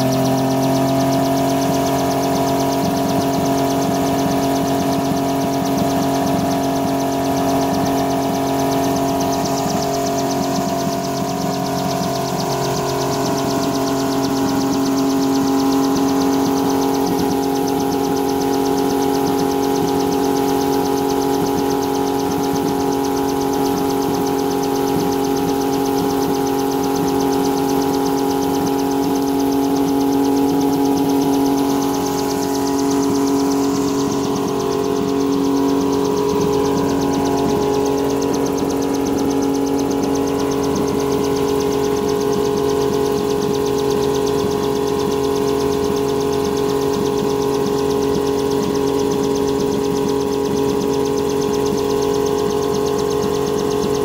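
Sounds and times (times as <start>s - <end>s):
helicopter engine and rotor running: 0.0s - 54.0s.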